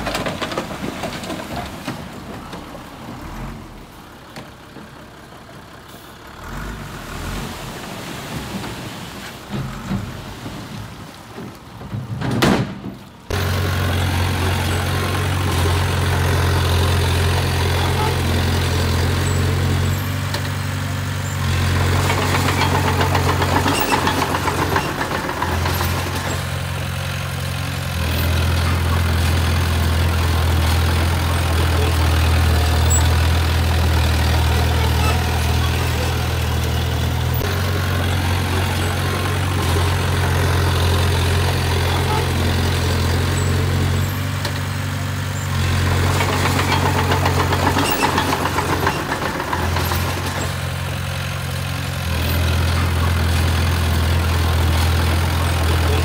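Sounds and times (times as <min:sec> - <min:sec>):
bulldozer diesel engine running: 0:00.0 - 0:12.2, 0:12.9 - 0:56.0.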